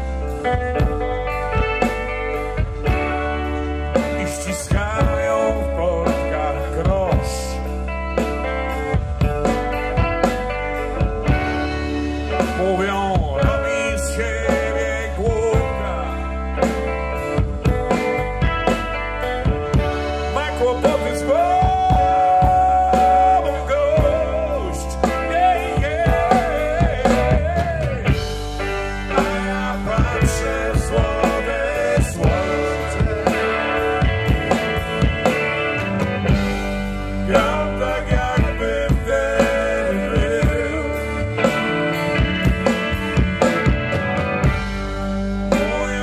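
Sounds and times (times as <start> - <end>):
bass guitar: 0.0 - 46.0
drum kit: 0.0 - 46.0
electric guitar: 0.0 - 46.0.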